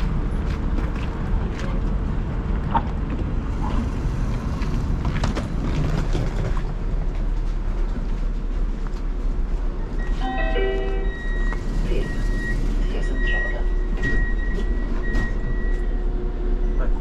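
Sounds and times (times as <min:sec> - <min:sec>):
low rumble of stopped tram: 0:00.0 - 0:17.0.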